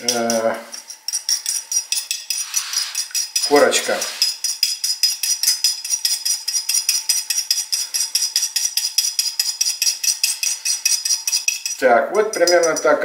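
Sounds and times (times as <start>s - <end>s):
spoon clinking a ceramic bowl: 0.0s - 13.0s.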